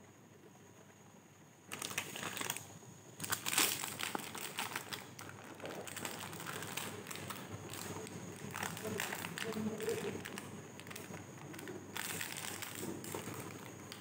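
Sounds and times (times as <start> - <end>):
plastic wrapper crinkling: 1.7 - 14.0.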